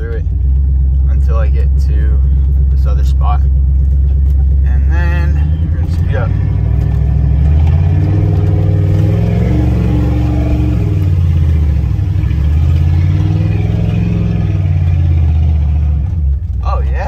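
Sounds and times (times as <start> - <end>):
truck engine pulling under throttle: 0.0 - 17.0.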